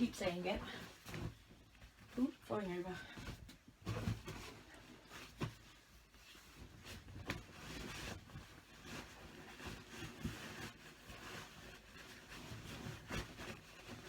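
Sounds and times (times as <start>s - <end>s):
rustling of bed sheets: 0.0s - 14.0s.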